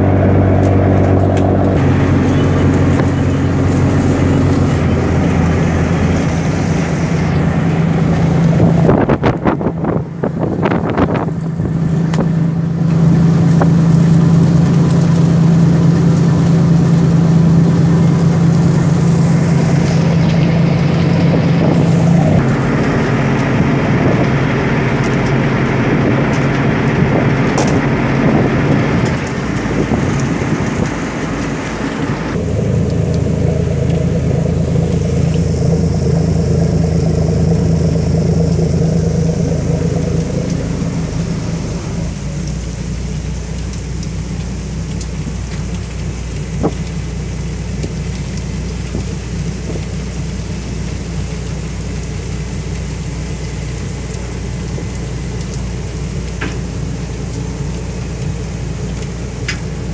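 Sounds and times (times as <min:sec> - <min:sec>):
diesel engine drone: 0:00.0 - 0:59.9
rushing wind and rain: 0:00.0 - 0:59.9.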